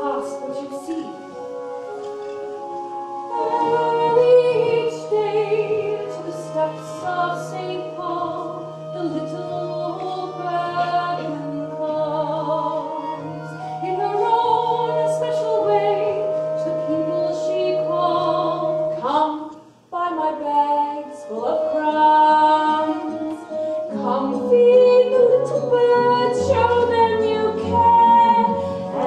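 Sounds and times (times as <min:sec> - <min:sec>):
woman singing with vibrato: 0:00.0 - 0:01.5, 0:03.2 - 0:29.0
soft live accompaniment: 0:00.0 - 0:29.0.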